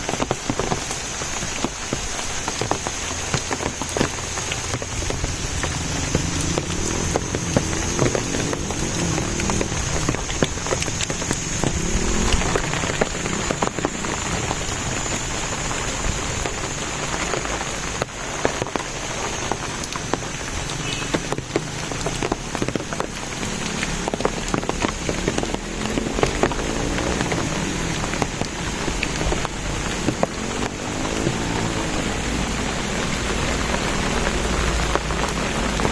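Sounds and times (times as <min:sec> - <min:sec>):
rain falling: 0:00.0 - 0:35.9
raindrop clicks: 0:00.0 - 0:35.9.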